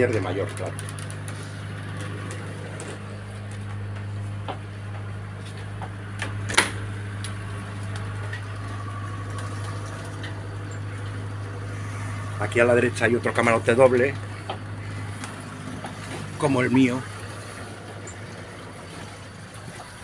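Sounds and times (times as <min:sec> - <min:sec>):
low hum of onboard machinery: 0:00.0 - 0:20.0.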